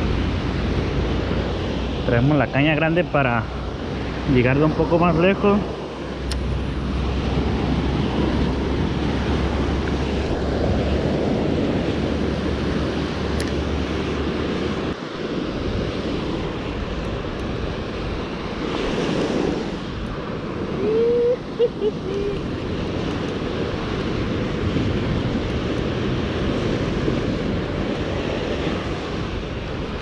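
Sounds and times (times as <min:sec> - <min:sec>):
surf washing on beach: 0:00.0 - 0:30.0
wind rumbling on microphone: 0:00.0 - 0:30.0.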